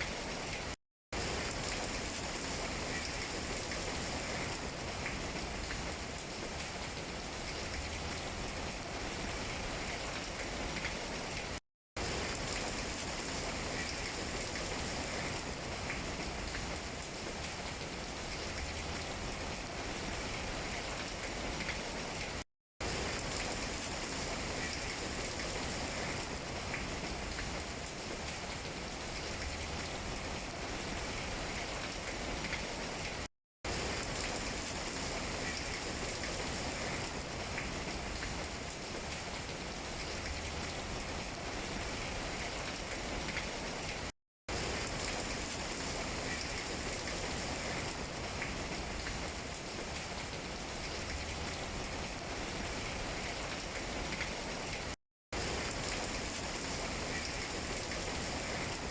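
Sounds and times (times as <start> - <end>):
rain falling on leaves: 0.0 - 58.9.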